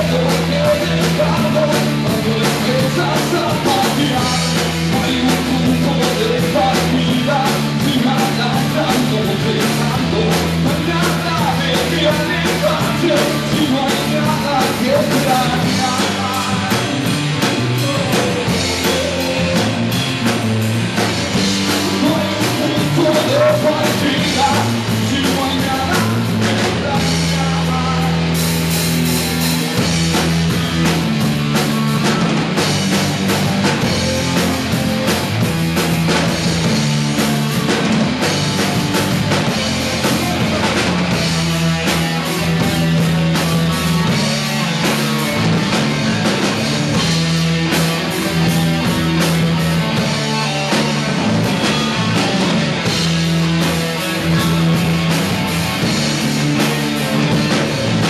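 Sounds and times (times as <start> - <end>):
bass line: 0.0 - 58.0
rock band playing live: 0.0 - 58.0.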